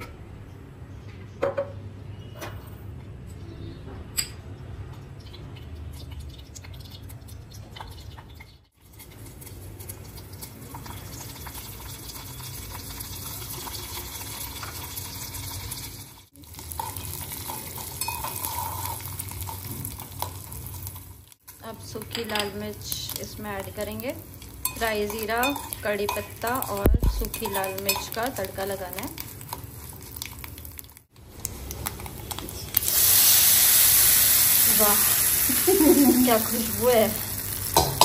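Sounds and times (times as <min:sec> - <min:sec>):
hot ghee sizzling: 0:05.0 - 0:38.0.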